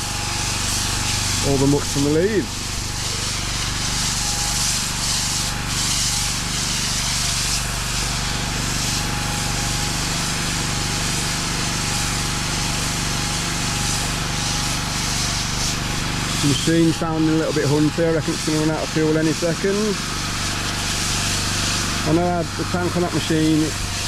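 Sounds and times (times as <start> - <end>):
pressure washer engine running: 0.0 - 24.0.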